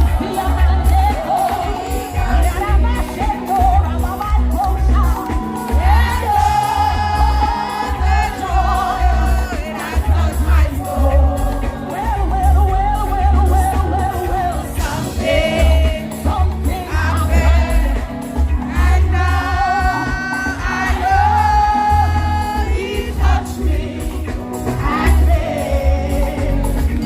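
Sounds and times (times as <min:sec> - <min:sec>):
gospel band with heavy bass: 0:00.0 - 0:27.0.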